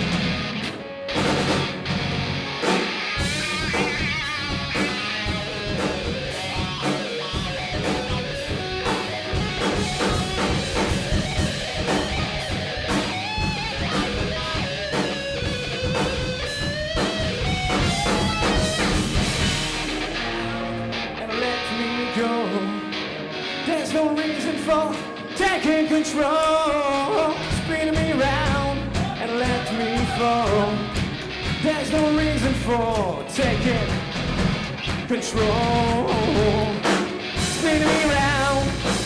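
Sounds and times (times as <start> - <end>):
drum kit: 0.0 - 21.2, 25.7 - 39.0
bass guitar: 0.0 - 39.0
electric guitar: 0.0 - 39.0.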